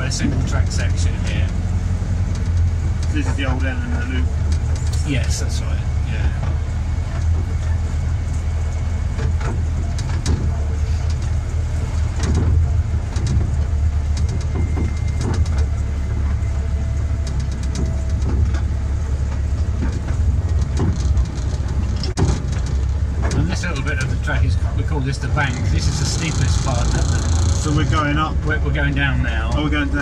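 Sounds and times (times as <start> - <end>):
miniature train low drone: 0.0 - 30.0
wheels clicking on rails: 0.0 - 30.0.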